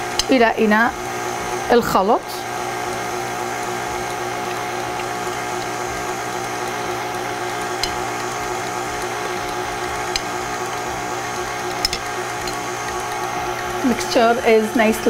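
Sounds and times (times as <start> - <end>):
electric mixer beating batter: 0.0 - 15.0.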